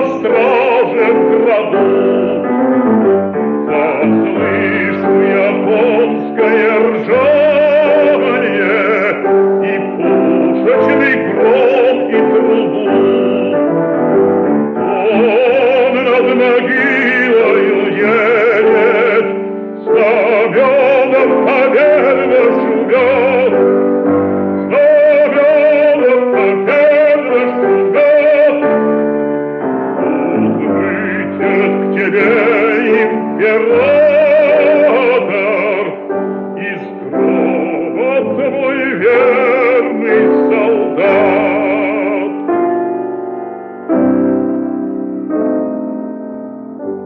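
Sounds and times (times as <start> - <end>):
bass voice singing operatically: 0.0 - 13.8, 14.6 - 23.8, 24.6 - 29.0, 29.6 - 42.7
piano accompaniment: 0.0 - 47.0.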